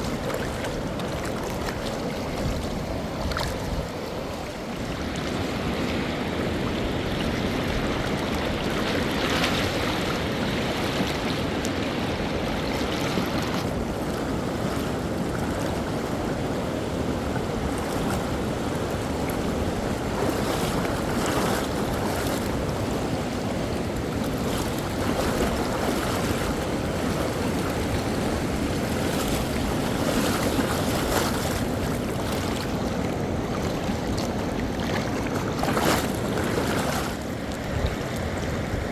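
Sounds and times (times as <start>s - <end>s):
fast river rushing: 0.0s - 38.9s
water splashes: 0.0s - 38.9s.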